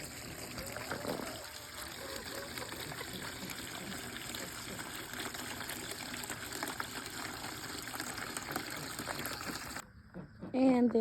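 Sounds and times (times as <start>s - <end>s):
water trickling from garden hose: 0.0s - 9.8s.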